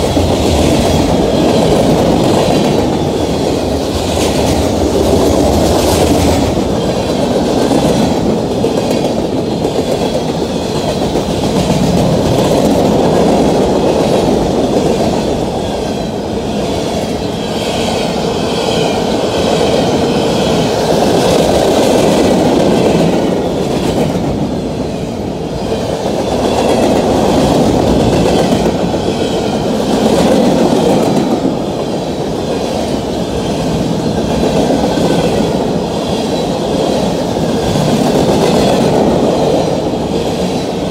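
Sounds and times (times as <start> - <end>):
steel wheels rumbling on rail: 0.0 - 40.9.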